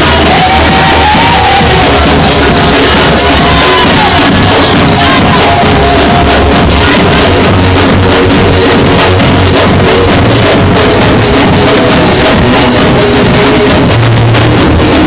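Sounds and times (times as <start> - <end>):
steady drum beat: 0.0 - 15.0
worship music: 0.0 - 15.0.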